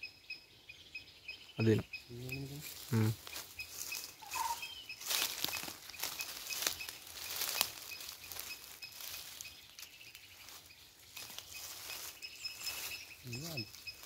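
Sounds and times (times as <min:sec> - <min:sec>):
high repeated chirping: 0:00.0 - 0:14.0.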